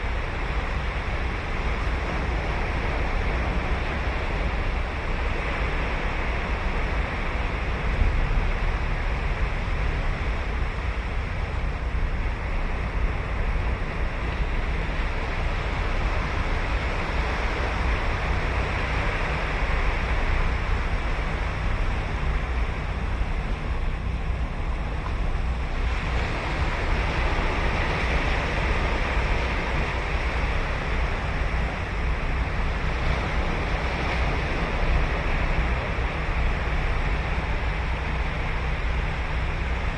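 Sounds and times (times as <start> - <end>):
ocean surf breaking on sand: 0.0 - 39.9
wind rumble on microphone: 0.0 - 39.9.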